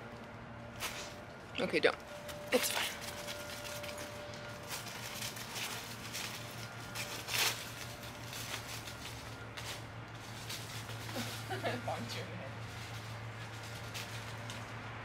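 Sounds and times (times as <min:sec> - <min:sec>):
footsteps in dry leaves: 0:00.0 - 0:15.0.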